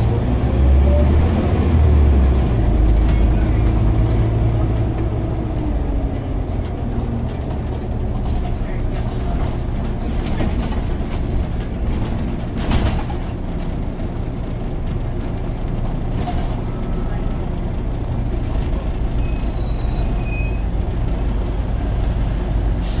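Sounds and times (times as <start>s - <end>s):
bus diesel engine: 0.0s - 23.0s
road rumble: 0.0s - 23.0s.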